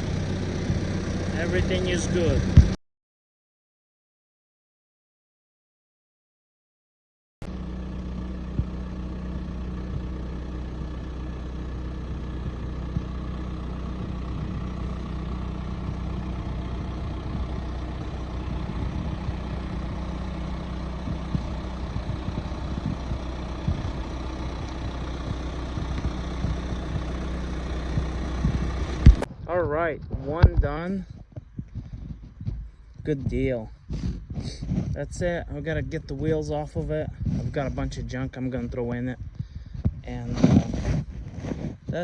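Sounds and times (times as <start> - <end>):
heavy engine idling: 0.0 - 2.8, 7.4 - 40.3.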